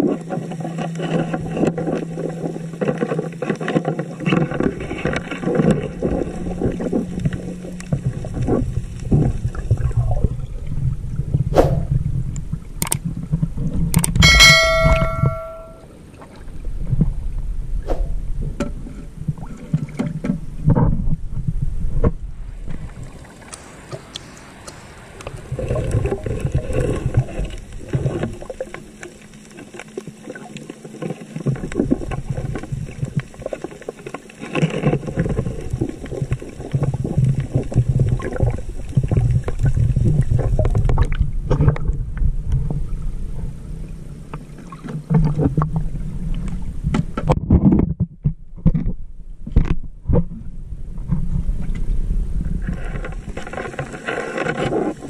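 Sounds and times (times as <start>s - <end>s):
underwater water rumbling and gurgling: 0.0s - 15.2s, 16.0s - 55.0s.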